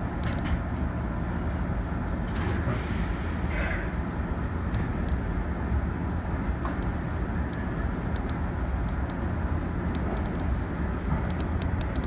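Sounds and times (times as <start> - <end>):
electric train interior hum: 0.0 - 12.0.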